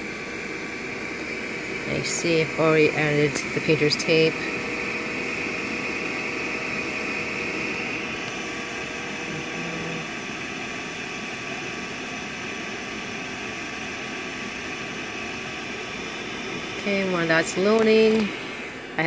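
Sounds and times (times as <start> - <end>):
printer fans whirring: 0.0 - 19.0.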